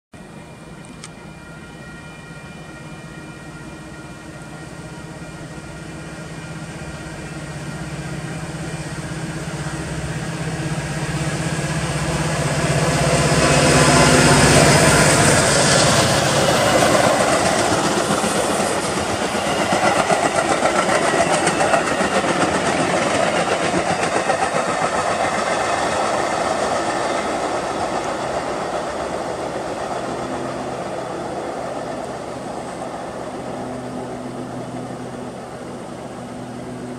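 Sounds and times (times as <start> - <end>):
diesel locomotive engine: 0.2 - 36.9
train cars rumbling past: 0.2 - 36.9.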